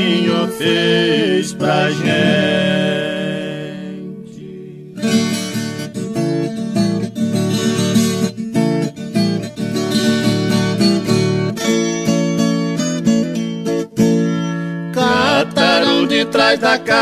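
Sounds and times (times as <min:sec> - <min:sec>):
acoustic guitars playing melody: 0:00.0 - 0:17.0.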